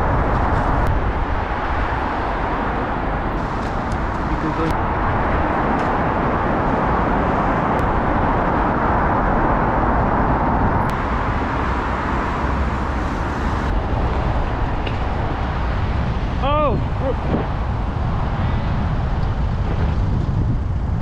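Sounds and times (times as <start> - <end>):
city traffic noise: 0.0 - 21.0
wind rushing over microphone: 0.0 - 21.0.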